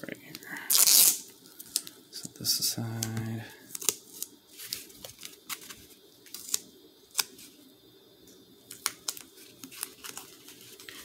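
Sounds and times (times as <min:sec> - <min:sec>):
sticky tape crackling: 0:00.3 - 0:07.6, 0:08.6 - 0:11.0.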